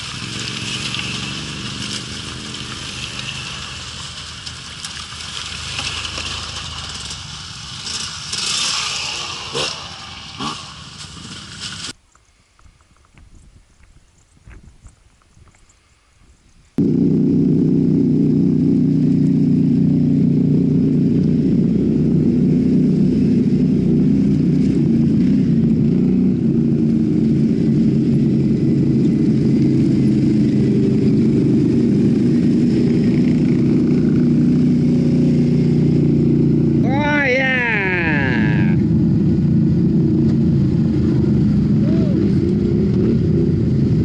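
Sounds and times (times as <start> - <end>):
atv engine running: 0.0 - 11.9, 16.8 - 44.0.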